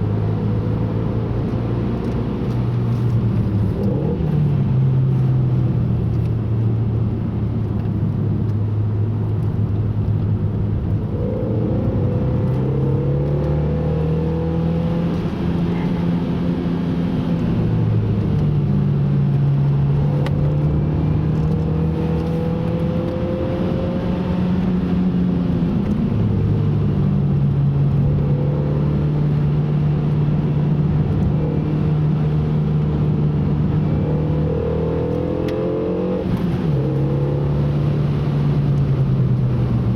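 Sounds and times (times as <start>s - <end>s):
road and tyre noise: 0.0s - 39.9s
car engine revving through gears: 0.1s - 7.1s, 10.8s - 39.9s.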